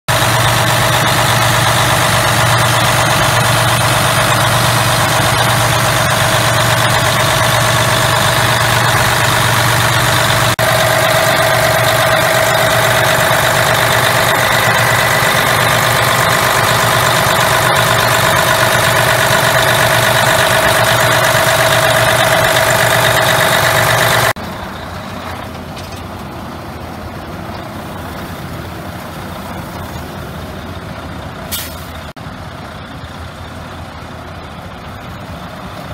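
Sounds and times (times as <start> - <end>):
diesel truck engine idling: 0.1 - 35.9.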